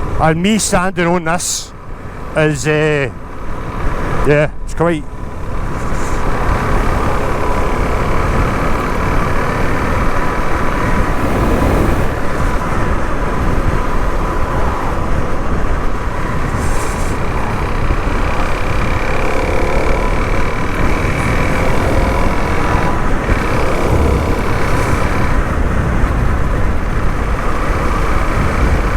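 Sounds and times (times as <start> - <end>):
heavy wind noise: 2.9 - 28.9
motorcycle engine running: 5.2 - 28.9.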